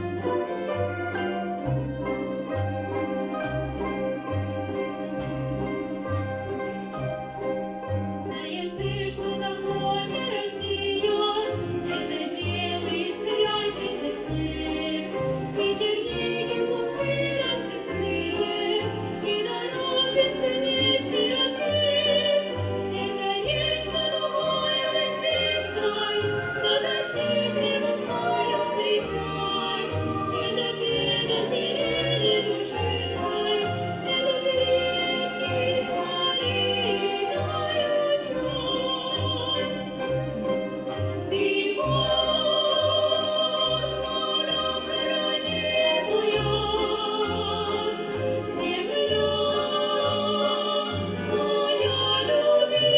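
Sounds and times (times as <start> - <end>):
folk instrument orchestra playing: 0.0 - 52.9
vocal soloists singing: 0.0 - 52.9.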